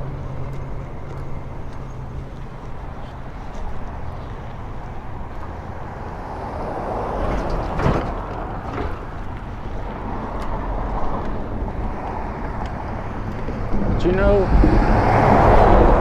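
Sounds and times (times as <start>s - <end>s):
low rumble: 0.0s - 16.0s
road traffic passing: 0.0s - 16.0s.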